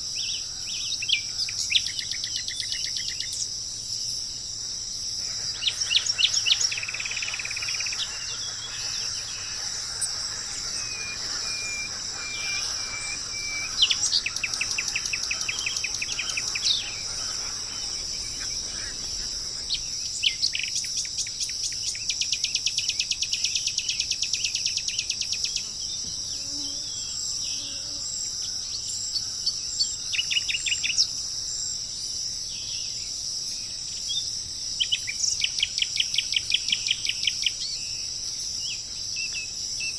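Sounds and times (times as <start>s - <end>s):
birds singing rapid trills: 0.0s - 39.9s
insects droning: 0.0s - 39.9s.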